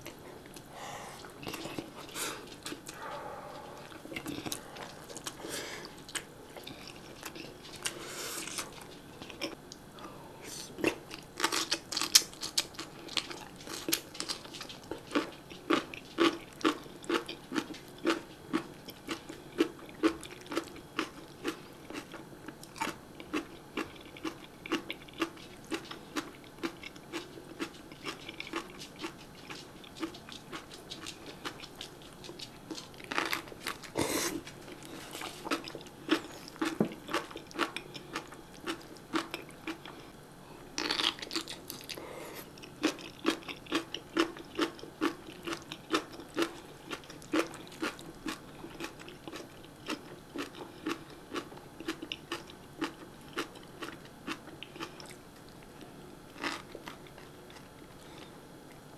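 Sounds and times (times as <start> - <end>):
crunching and chewing cabbage: 0.0 - 9.6, 10.8 - 58.9.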